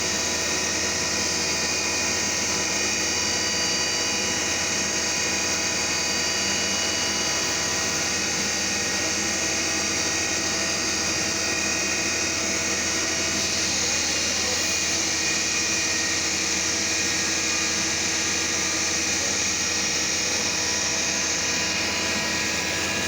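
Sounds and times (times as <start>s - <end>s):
milling machine spindle whine: 0.0s - 23.0s.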